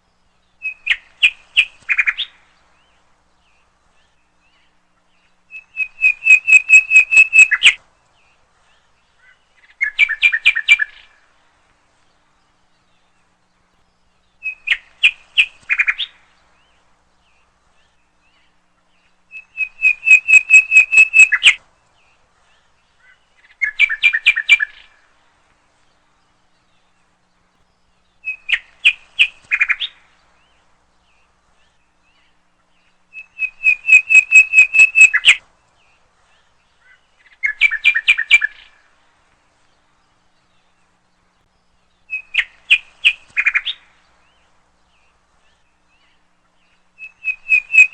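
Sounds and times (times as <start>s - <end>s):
bird chirping in trills: 0.1s - 11.2s, 12.2s - 25.1s, 26.0s - 39.0s, 39.6s - 47.9s.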